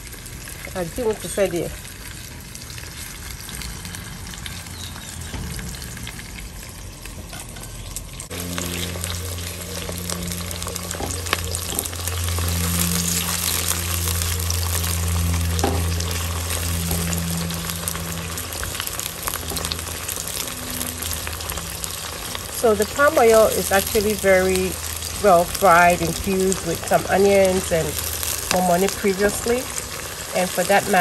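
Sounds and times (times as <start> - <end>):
low hum: 0.0 - 31.0
onions sizzling in oil: 0.0 - 31.0.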